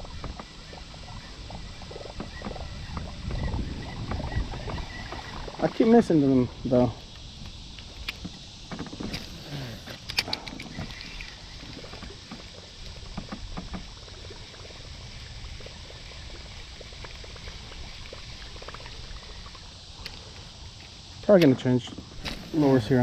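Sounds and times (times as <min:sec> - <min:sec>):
water trickling and lapping: 0:00.0 - 0:23.0.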